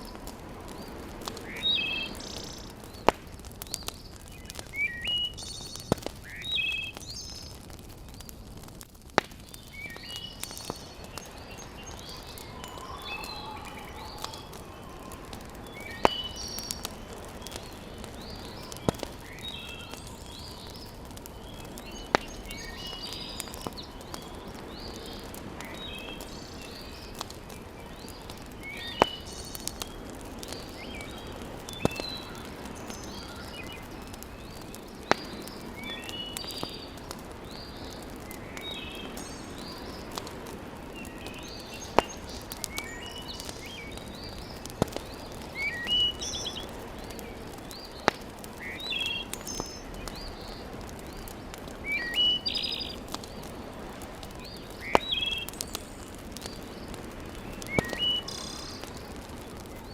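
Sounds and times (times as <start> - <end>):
small birds chirping: 0.0 - 59.9
wood fire crackling and popping: 0.0 - 59.9.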